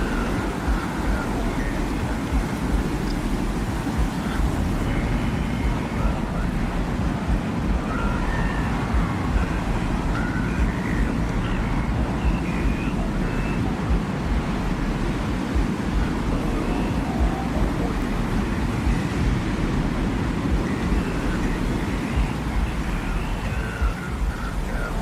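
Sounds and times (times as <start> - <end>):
deep rumble of wind: 0.0 - 25.0.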